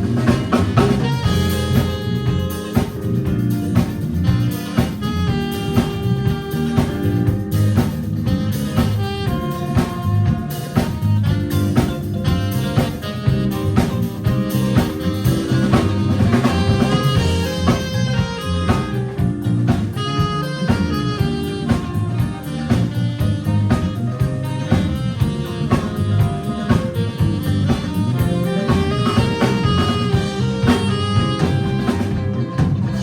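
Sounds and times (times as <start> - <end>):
drum kit steady beat: 0.0 - 33.0
guitar: 0.0 - 33.0
live jazz band playing: 0.0 - 33.0.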